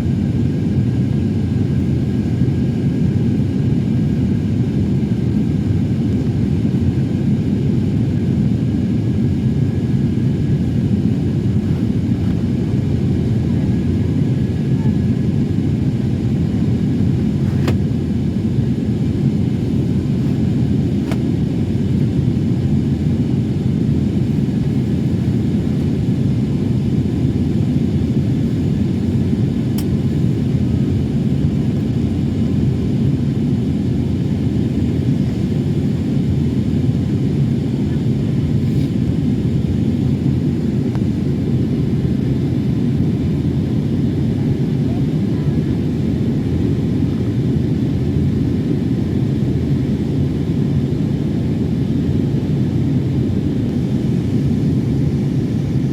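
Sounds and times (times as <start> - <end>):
airliner cabin rumble: 0.1 - 55.9.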